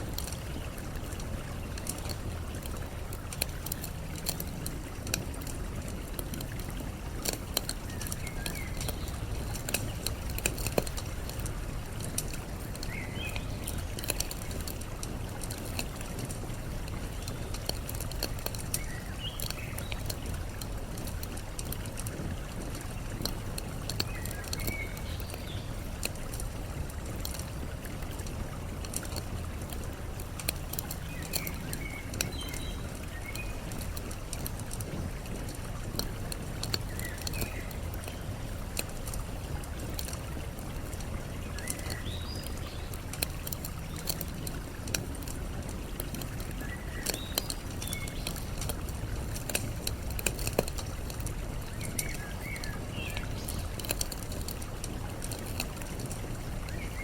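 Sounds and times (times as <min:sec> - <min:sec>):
campfire crackling and popping: 0:00.0 - 0:57.0
flowing water: 0:00.0 - 0:57.0.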